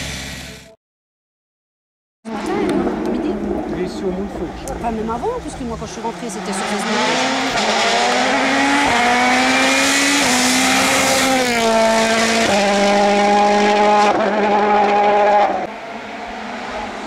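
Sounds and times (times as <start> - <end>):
rally car engine at full throttle: 2.3 - 17.0.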